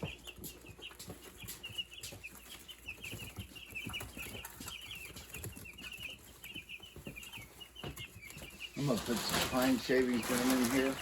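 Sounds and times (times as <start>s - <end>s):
chicks peeping: 0.0s - 11.0s
faint knocks and rustles: 0.0s - 11.0s.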